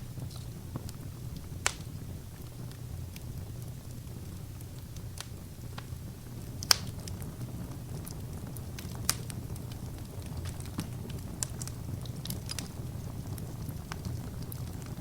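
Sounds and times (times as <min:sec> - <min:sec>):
fire crackles and pops: 0:00.0 - 0:15.0
low rumble of flames: 0:00.0 - 0:15.0.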